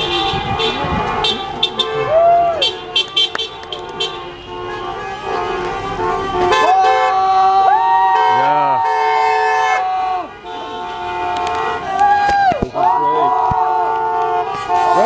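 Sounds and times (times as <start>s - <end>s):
vehicle horns honking: 0.0s - 12.4s, 13.4s - 15.0s.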